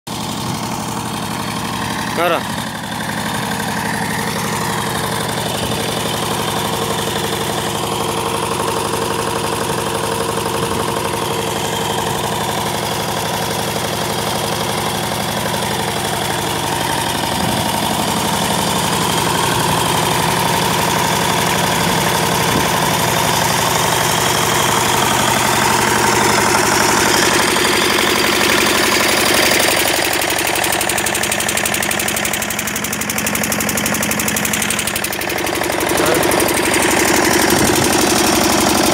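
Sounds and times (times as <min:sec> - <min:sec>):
generator engine knocking: 0:00.1 - 0:38.9.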